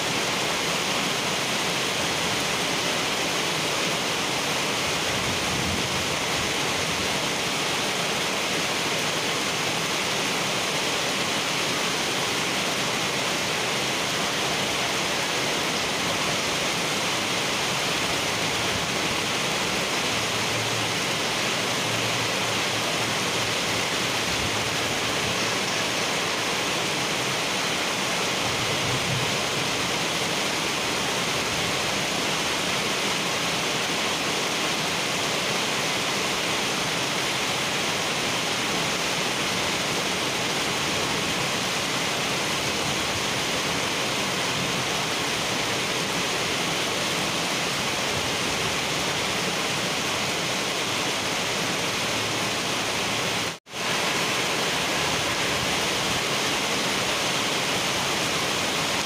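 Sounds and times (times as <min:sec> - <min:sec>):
heavy rain on asphalt: 0:00.0 - 0:59.0.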